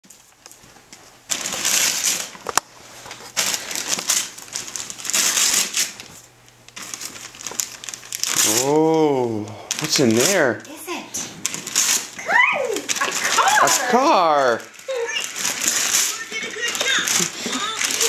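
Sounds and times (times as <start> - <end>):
wrapping paper tearing and crumpling: 0.0 - 18.0.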